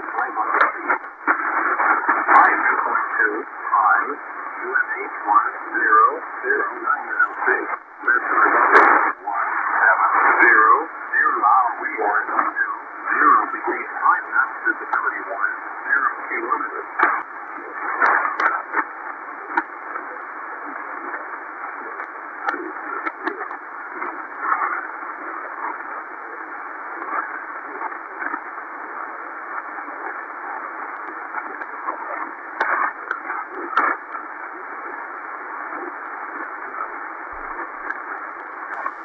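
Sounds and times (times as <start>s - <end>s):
shortwave radio static hiss: 0.0s - 39.0s
static crackles: 0.0s - 39.0s.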